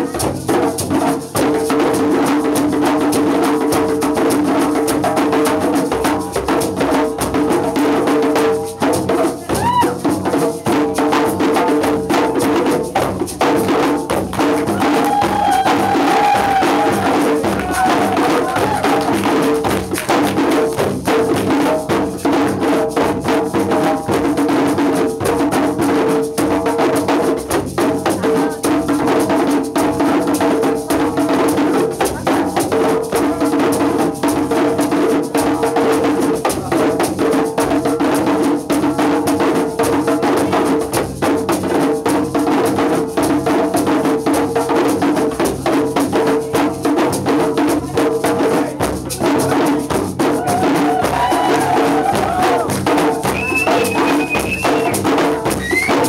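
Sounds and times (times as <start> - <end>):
hand drums playing fast rhythm: 0.0 - 56.0.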